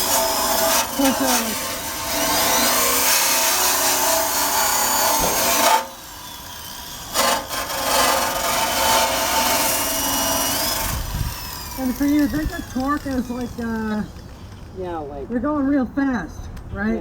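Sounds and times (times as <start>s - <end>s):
electric drill wire brush scraping steel: 0.0s - 15.2s.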